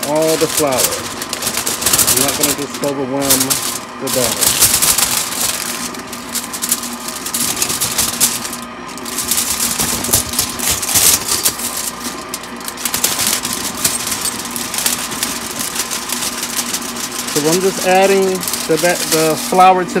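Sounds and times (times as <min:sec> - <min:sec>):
aluminium foil crinkling: 0:00.0 - 0:20.0
stand mixer motor humming: 0:00.0 - 0:20.0.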